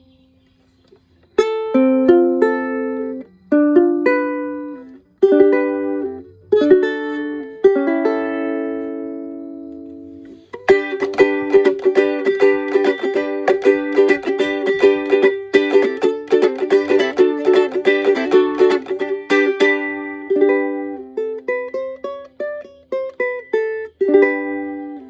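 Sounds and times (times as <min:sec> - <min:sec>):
ukulele strumming: 0:01.3 - 0:25.0.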